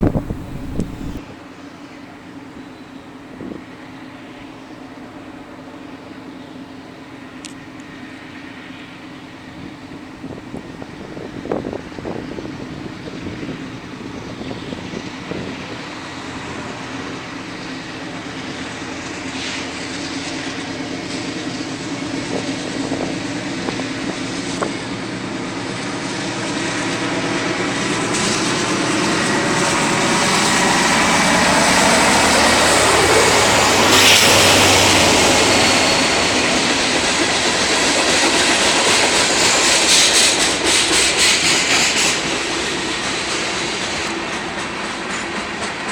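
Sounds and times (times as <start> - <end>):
diesel locomotive engine hum: 0.0 - 45.9.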